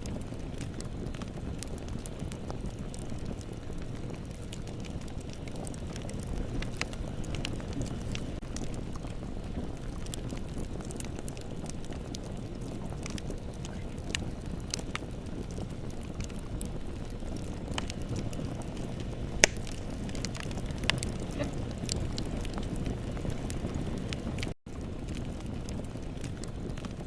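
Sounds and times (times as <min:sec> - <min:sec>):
burning wood crackling and popping: 0:00.0 - 0:27.0
low rumble of flame: 0:00.0 - 0:27.0.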